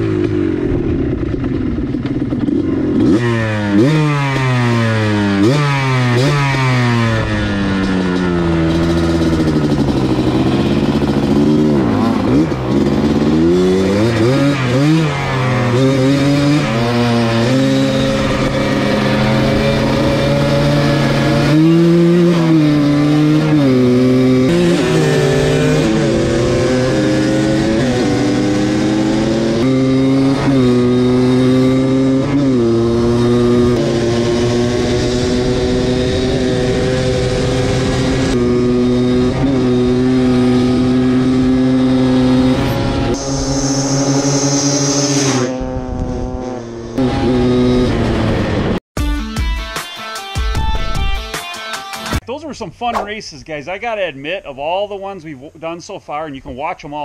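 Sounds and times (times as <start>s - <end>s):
two-stroke atv engines revving: 0.0s - 48.8s.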